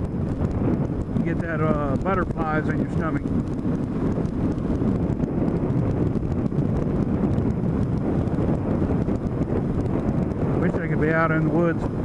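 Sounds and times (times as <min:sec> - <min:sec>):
motorcycle engine and tyre noise: 0:00.0 - 0:12.0
wind buffeting microphone: 0:00.0 - 0:12.0.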